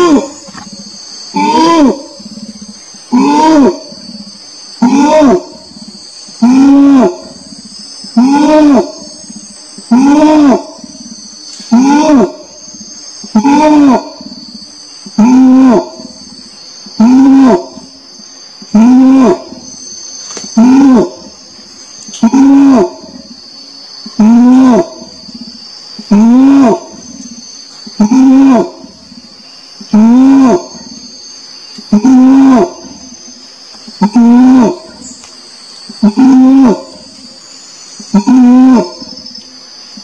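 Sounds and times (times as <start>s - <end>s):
orangutan calling: 0.0s - 35.2s, 35.9s - 39.2s
high insect buzz: 0.0s - 40.0s.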